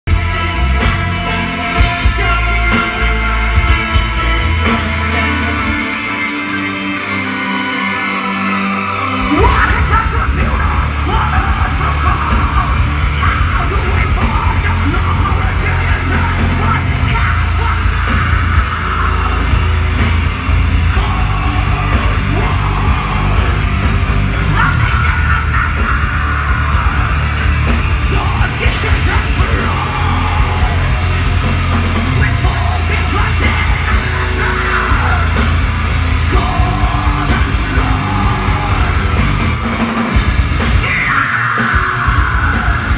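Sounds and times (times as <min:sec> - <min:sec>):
bass guitar: 0:00.0 - 0:42.9
distorted electric guitars: 0:00.0 - 0:42.9
pounding drums: 0:00.1 - 0:05.8, 0:09.2 - 0:42.9.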